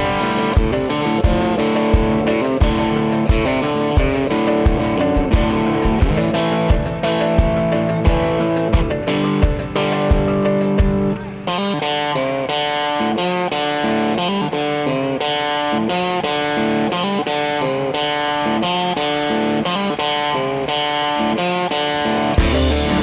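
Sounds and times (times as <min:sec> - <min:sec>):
instrumental guitar music: 0:00.0 - 0:23.0.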